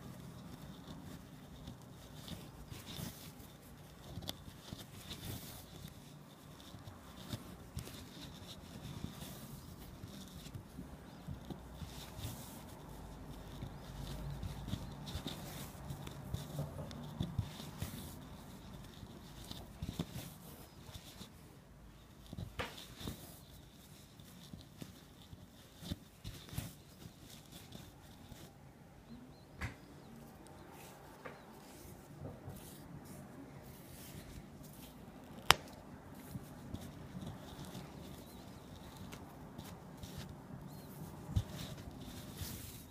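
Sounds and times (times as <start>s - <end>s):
needle scratching through yarn: 0.0s - 29.2s, 30.0s - 42.9s.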